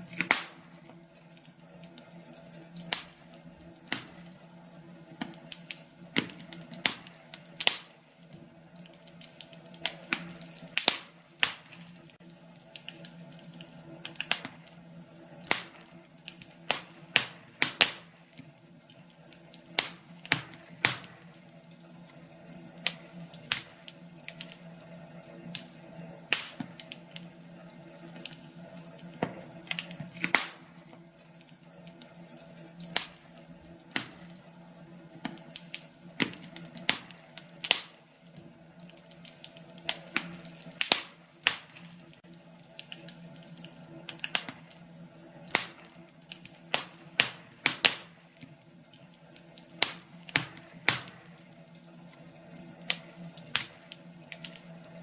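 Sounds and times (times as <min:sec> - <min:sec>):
burning logs snapping and popping: 0:00.0 - 0:55.0
low hiss of flames: 0:00.0 - 0:55.0.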